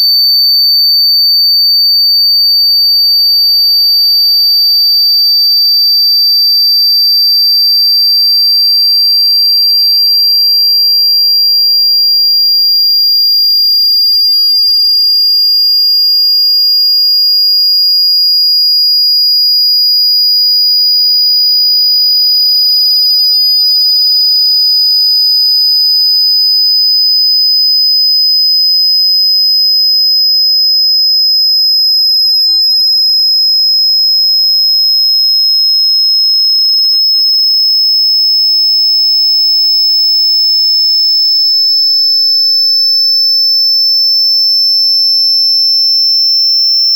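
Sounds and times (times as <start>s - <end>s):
high-pitched sine tone: 0.0s - 46.9s.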